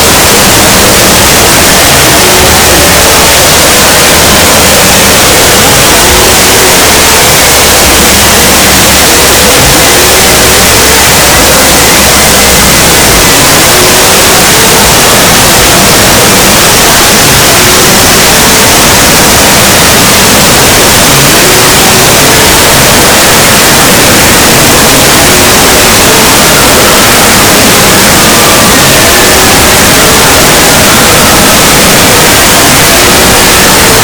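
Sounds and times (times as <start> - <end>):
harsh distorted static noise: 0.0 - 34.0.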